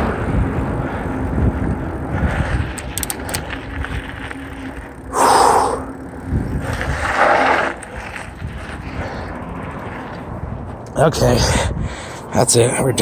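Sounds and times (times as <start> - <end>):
bike tyres on dirt trail: 0.0 - 12.3
wind rumbling on microphone: 0.0 - 13.0.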